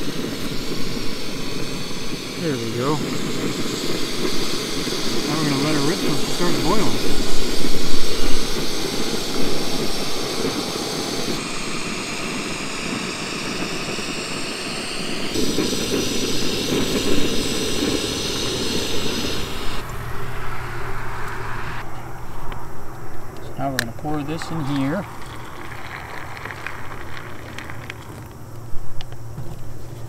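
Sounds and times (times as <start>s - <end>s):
gas stove burner hissing: 0.0s - 30.0s.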